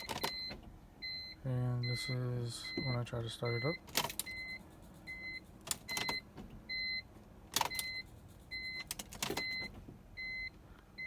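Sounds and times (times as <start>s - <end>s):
car warning chime beeping: 0.0s - 11.0s.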